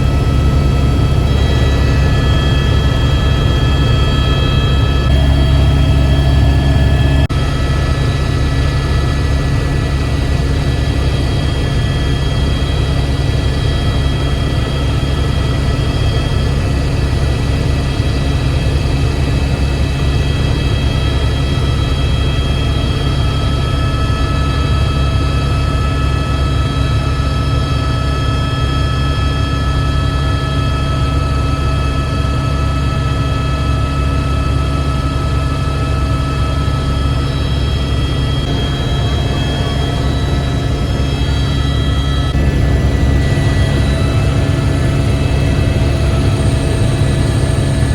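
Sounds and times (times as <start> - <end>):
helicopter turbine and rotors: 0.0 - 47.9.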